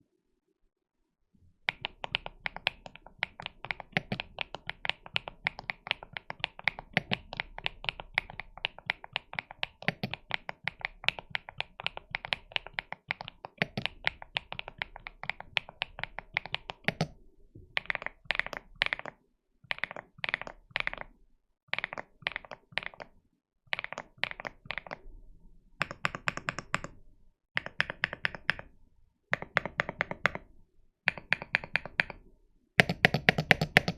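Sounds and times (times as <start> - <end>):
mechanical keyboard typing: 1.7 - 17.2, 17.8 - 23.1, 23.7 - 25.1, 25.8 - 27.0, 27.6 - 28.7, 29.3 - 30.5, 31.1 - 33.9.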